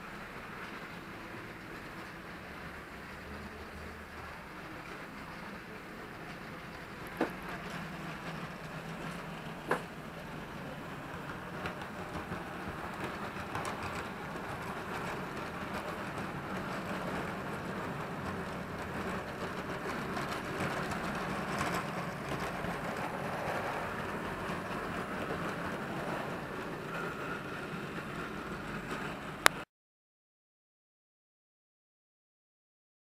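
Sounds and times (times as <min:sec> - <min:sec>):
model trains whirring: 0:00.0 - 0:29.6.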